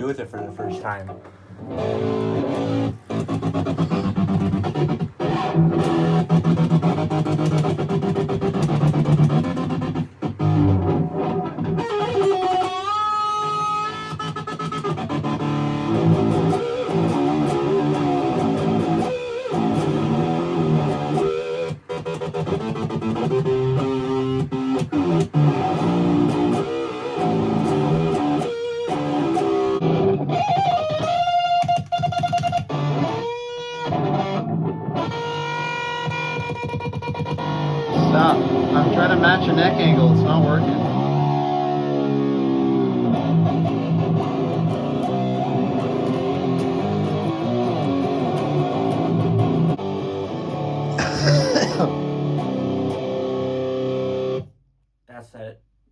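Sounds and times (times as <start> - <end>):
electric guitar stuttering through amp: 1.2 - 54.4.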